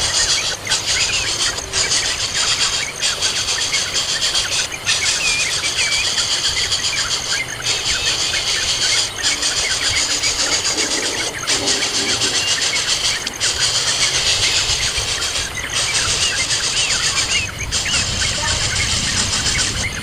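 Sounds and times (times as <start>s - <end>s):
high-pitched buzzing chorus: 0.0s - 20.0s
thin scattered chirps: 0.2s - 20.0s.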